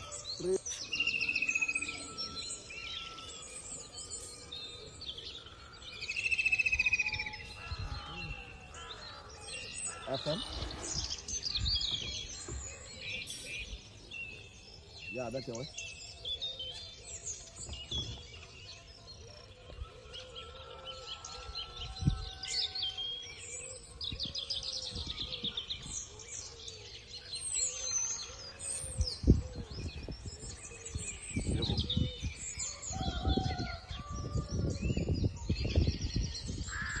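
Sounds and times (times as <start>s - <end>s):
birds chirping and trilling: 0.0s - 37.0s.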